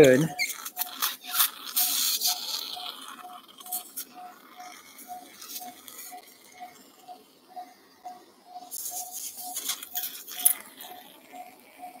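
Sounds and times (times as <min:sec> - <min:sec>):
patient monitor beeping: 0:00.0 - 0:12.0.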